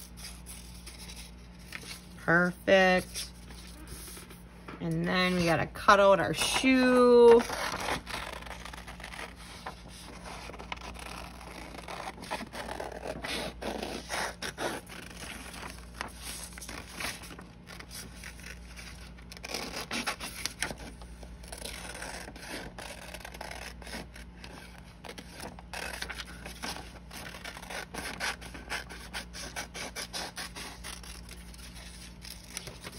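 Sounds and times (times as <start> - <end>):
scissors cutting paper: 6.4 - 32.9.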